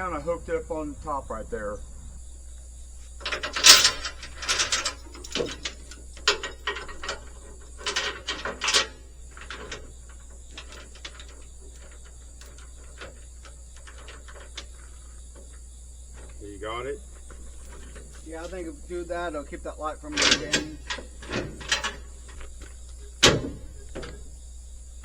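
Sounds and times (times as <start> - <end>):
metal chain clanking: 2.2 - 24.6.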